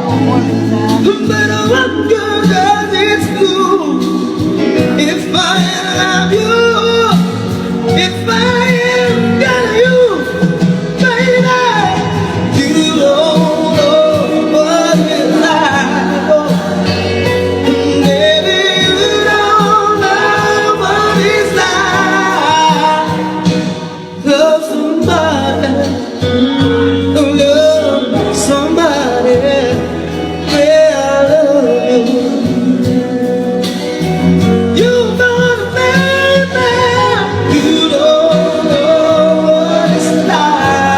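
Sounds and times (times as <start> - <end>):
instrumental accompaniment: 0.0 - 40.9
man singing: 0.0 - 40.9.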